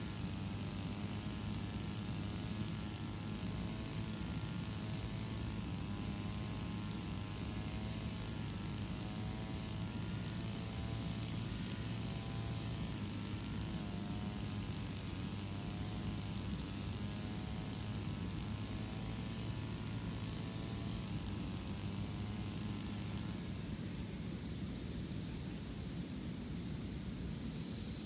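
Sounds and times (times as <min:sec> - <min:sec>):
brush cutter cutting grass: 0:00.0 - 0:25.5.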